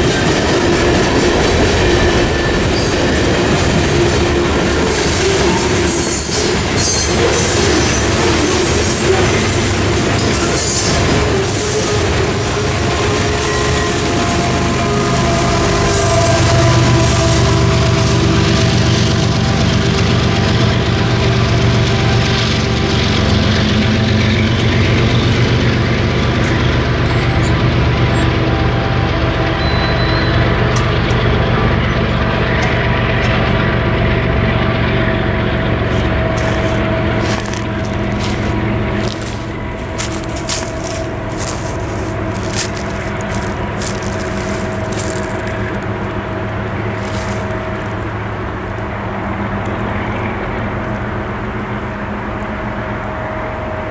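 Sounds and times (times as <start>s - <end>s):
diesel locomotive engine drone: 0.0s - 53.9s
freight train rumble: 0.0s - 53.9s.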